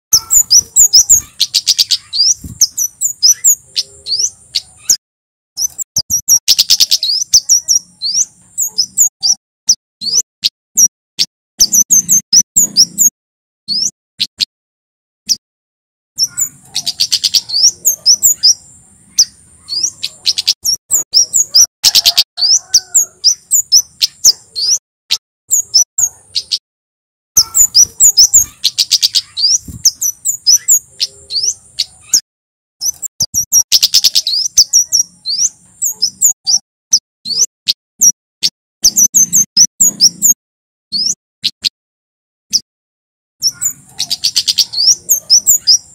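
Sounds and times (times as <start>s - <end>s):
bird chirping high-pitched: 0.1s - 5.0s, 5.6s - 14.5s, 15.2s - 15.4s, 16.2s - 26.6s, 27.4s - 41.8s, 42.5s - 42.7s, 43.4s - 45.9s.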